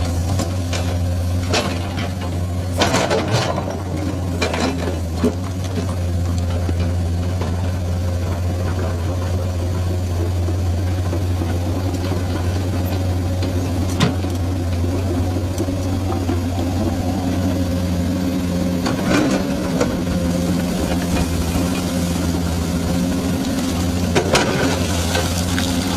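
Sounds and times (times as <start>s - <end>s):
diesel engine drone: 0.0s - 25.9s.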